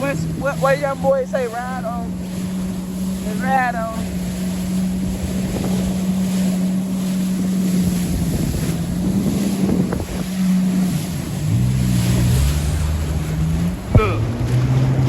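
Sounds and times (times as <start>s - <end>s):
jet ski engine: 0.0s - 15.0s
water noise: 0.0s - 15.0s
wind buffeting microphone: 0.0s - 15.0s.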